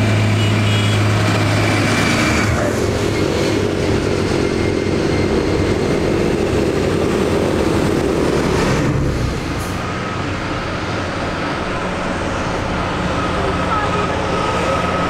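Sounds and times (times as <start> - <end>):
distant tractor engines: 0.0 - 15.0
tractor diesel engine passing: 0.0 - 15.0.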